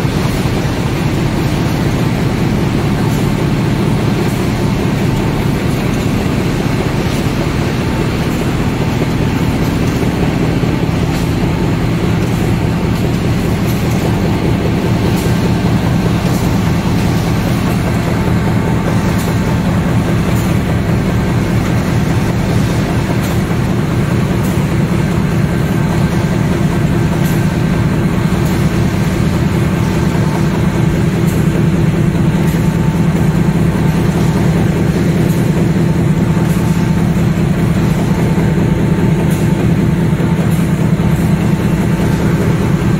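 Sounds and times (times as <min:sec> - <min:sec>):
box-making machine clatter: 0:00.0 - 0:42.9.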